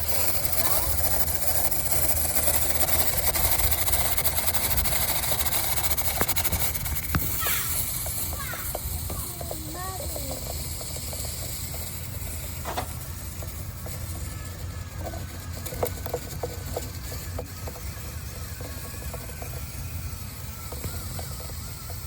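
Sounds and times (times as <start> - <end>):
drill humming: 0.0 - 22.0.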